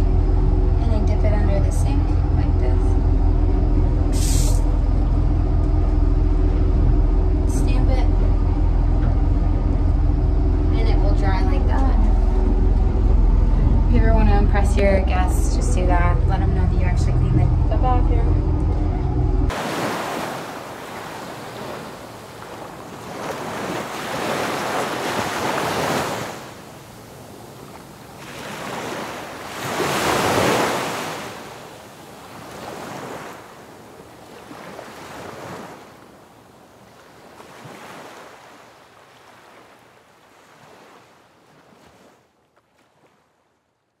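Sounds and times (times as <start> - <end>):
sea rushing: 0.0 - 43.6.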